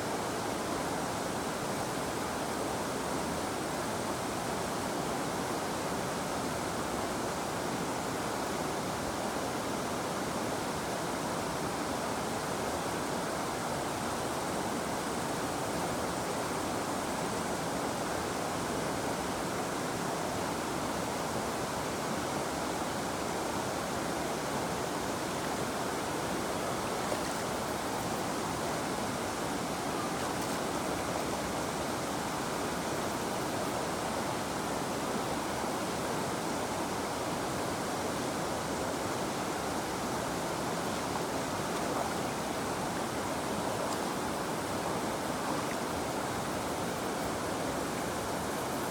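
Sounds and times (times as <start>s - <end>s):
river flowing: 0.0s - 48.9s.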